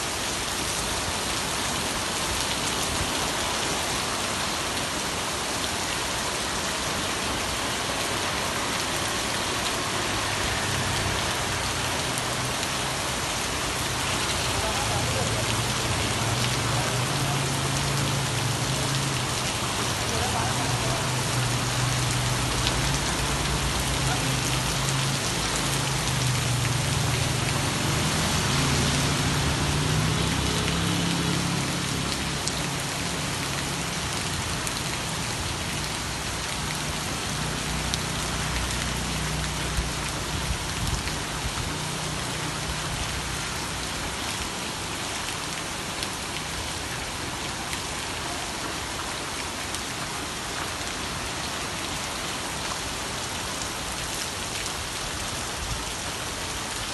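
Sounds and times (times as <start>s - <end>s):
heavy rain on wet street: 0.0s - 56.9s.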